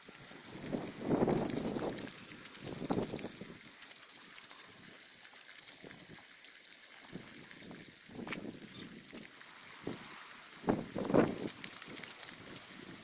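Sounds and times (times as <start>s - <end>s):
water splashes: 0.0s - 13.0s
water trickling from hose: 0.0s - 13.0s.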